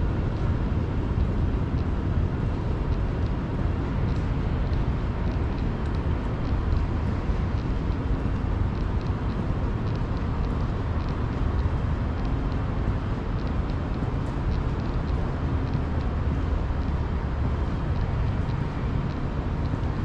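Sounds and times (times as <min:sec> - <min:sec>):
low outdoor rumble: 0:00.0 - 0:20.0
faint ticks: 0:00.4 - 0:02.0, 0:02.7 - 0:20.0.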